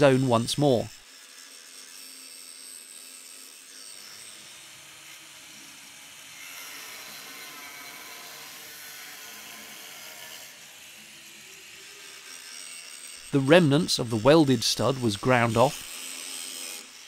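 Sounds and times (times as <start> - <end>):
angle grinder cutting metal: 0.0 - 17.0.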